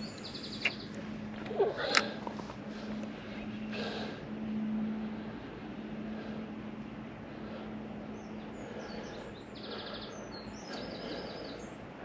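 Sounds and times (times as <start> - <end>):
outdoor background hiss: 0.0 - 12.0
songbirds chirping: 0.0 - 12.0.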